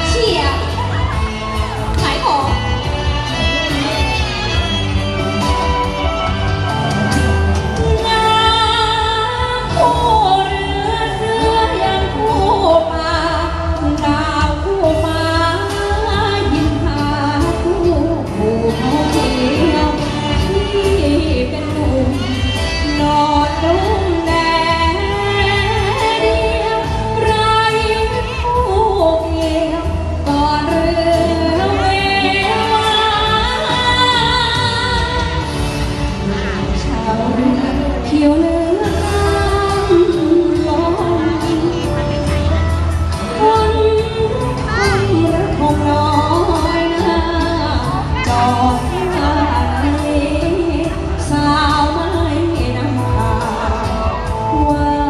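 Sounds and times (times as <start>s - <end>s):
band playing bass and drums: 0.0s - 55.0s
person singing into a microphone: 6.9s - 55.0s.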